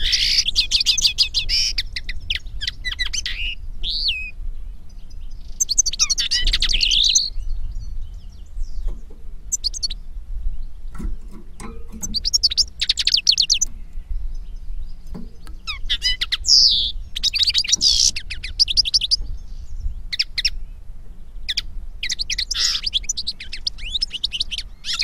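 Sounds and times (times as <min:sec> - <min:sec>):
finches twittering: 0:00.0 - 0:20.6, 0:21.4 - 0:25.0.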